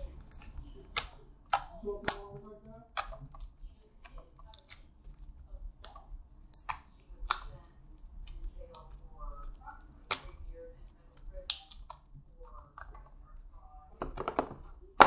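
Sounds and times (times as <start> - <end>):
slime clicking and popping: 0.0 - 13.1.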